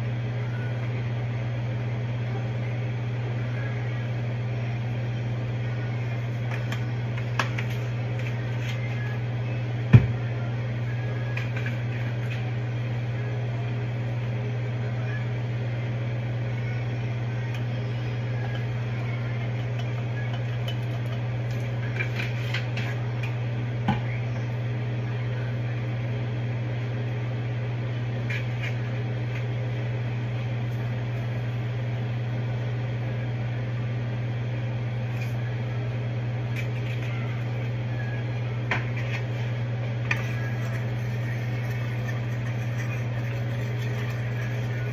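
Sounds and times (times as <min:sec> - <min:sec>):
range hood fan humming: 0:00.0 - 0:44.9.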